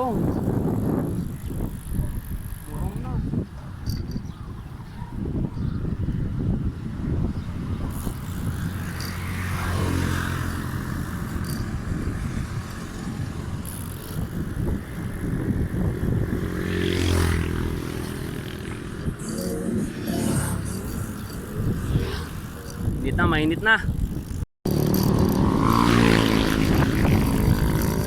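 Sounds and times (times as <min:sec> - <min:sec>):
vehicles passing: 0:00.0 - 0:28.0
wind and road noise: 0:00.0 - 0:28.0.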